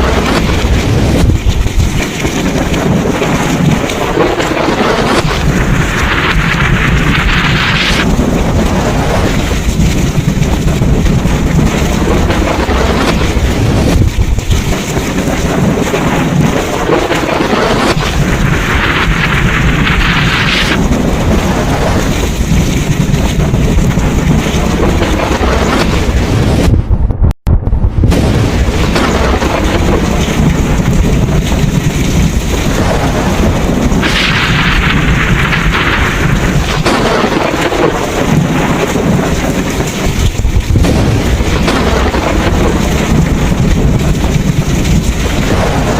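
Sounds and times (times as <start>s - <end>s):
heavy rain hiss: 0.0s - 26.7s, 28.1s - 45.9s
low thunder rumble: 0.0s - 45.9s.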